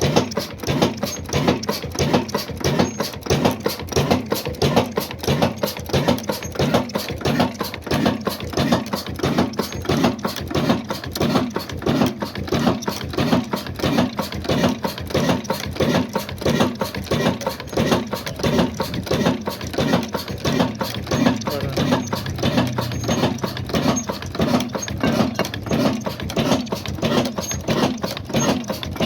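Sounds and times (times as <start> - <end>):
fast mechanical clatter: 0.0 - 29.0
stationary diesel engine running: 0.0 - 29.0.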